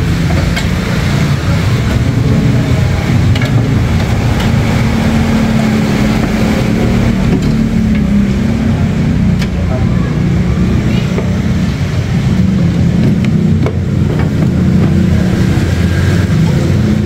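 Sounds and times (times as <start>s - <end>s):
engine rumbling: 0.0s - 17.0s
steady hum: 0.0s - 17.0s.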